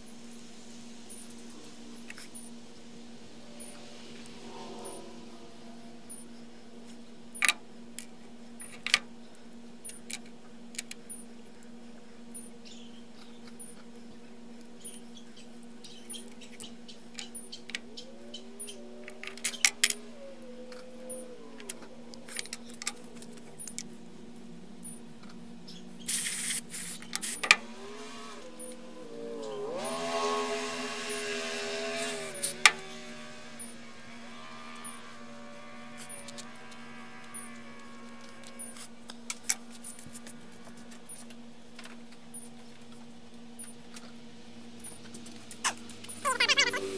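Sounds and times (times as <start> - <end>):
pitched whirring: 0.0 - 7.9, 14.6 - 42.8, 44.6 - 46.9
steady hum: 0.0 - 46.9.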